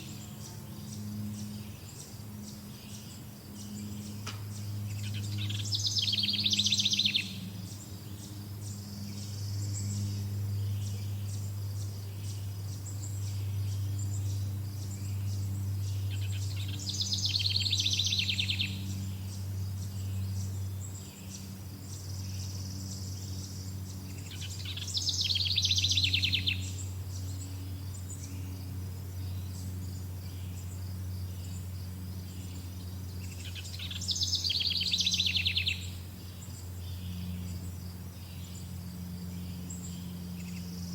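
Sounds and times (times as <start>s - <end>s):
bird trilling song: 0.0s - 40.9s
faint insects chirping: 0.0s - 40.9s
steady low hum: 0.0s - 40.9s.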